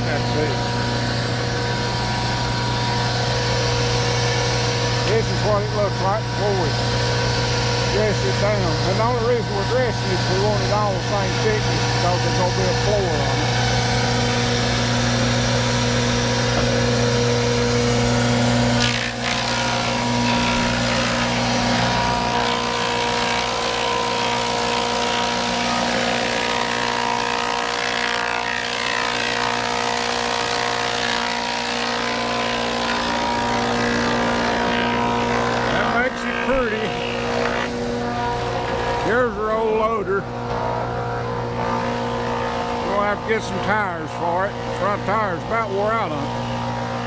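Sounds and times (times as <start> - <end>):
sawmill machinery humming: 0.0 - 47.0.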